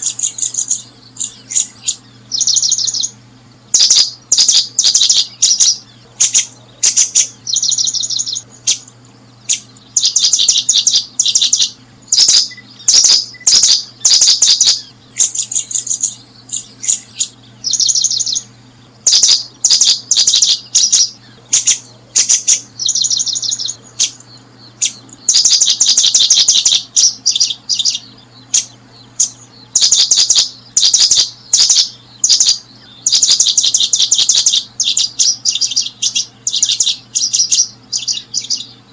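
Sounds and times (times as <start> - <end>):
faint low hum: 0.0 - 38.9
small birds chirping: 0.0 - 38.9.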